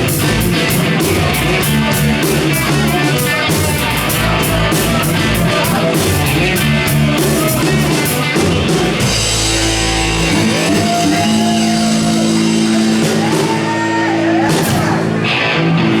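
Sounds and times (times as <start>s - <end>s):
person singing: 0.0s - 15.9s
country-rock band playing: 0.0s - 16.0s
electric guitar: 0.0s - 16.0s.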